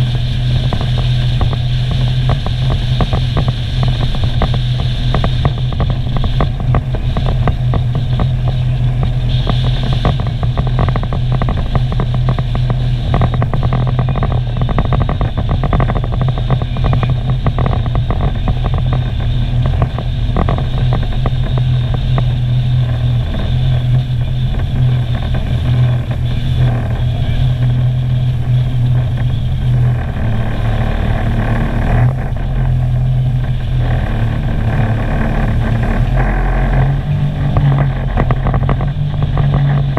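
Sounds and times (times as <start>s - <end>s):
watercraft engine drone: 0.0s - 39.9s.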